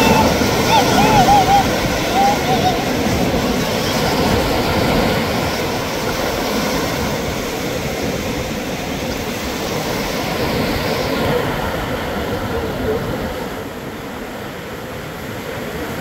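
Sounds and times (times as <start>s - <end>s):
breaking surf: 0.0s - 13.9s
wind buffeting microphone: 0.0s - 14.6s.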